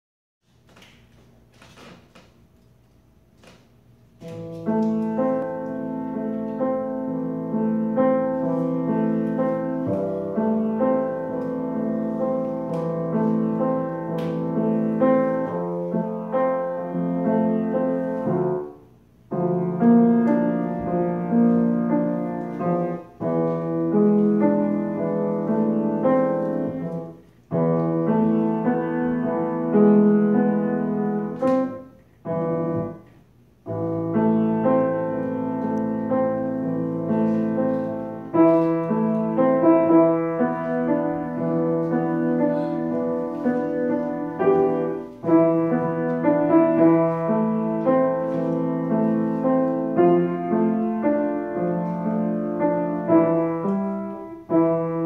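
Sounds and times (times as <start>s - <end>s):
grand piano playing: 3.4s - 55.0s.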